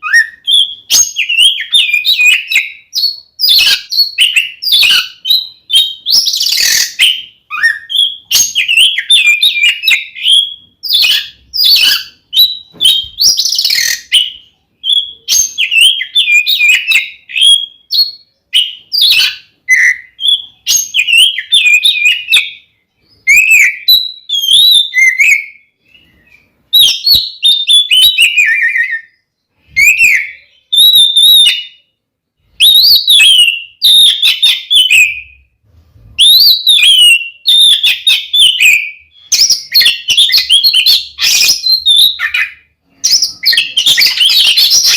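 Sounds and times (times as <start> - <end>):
magpie-robin singing: 0.0 - 35.5, 36.2 - 44.9.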